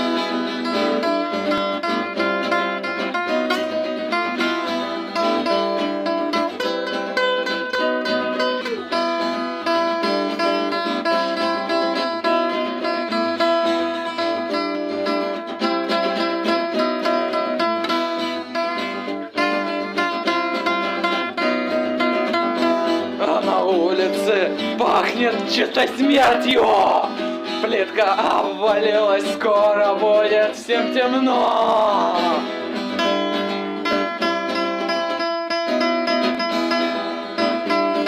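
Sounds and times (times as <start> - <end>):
acoustic guitars playing: 0.0 - 38.0.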